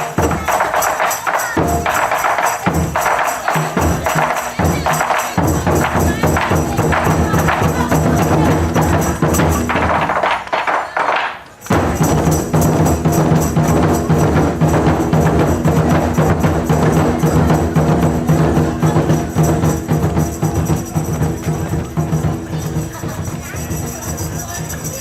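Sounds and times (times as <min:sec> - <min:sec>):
rapid clacking drumming: 0:00.0 - 0:25.0.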